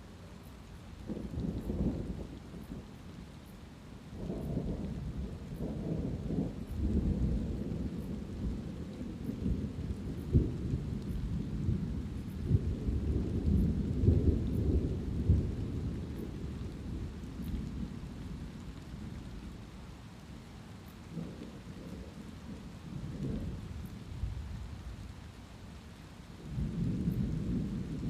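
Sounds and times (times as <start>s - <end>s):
light rain: 0.0s - 28.0s
thunder rumbling: 1.0s - 3.0s, 4.1s - 19.6s, 21.1s - 25.1s, 26.4s - 28.0s.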